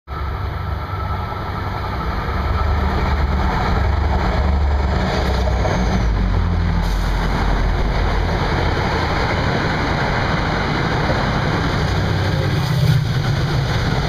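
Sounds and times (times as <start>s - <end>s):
approaching train rumble: 0.1s - 14.0s.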